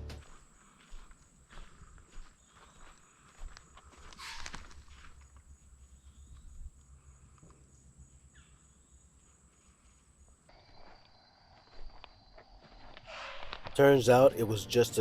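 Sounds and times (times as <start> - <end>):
insect buzz: 0.6 - 13.7.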